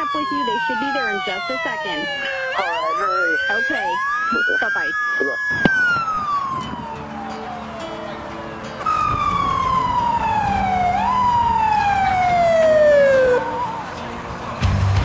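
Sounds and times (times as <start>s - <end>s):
emergency siren wailing: 0.0s - 14.2s.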